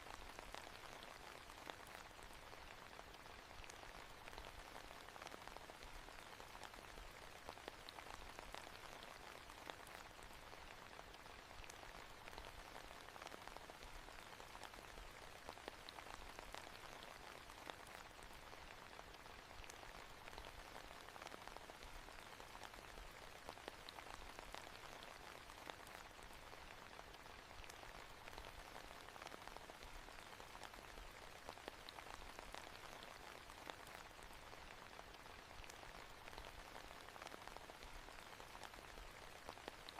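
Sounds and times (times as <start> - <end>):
soft rain pattering: 0.0 - 39.9.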